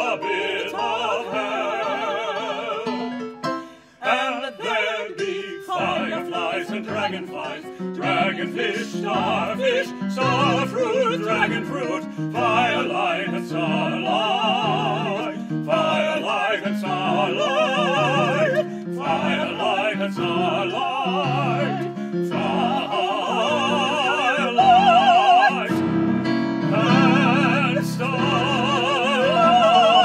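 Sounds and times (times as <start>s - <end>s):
woman singing opera: 0.0s - 3.0s, 4.0s - 25.8s, 26.8s - 30.0s
man singing opera: 4.0s - 25.9s, 26.6s - 30.0s.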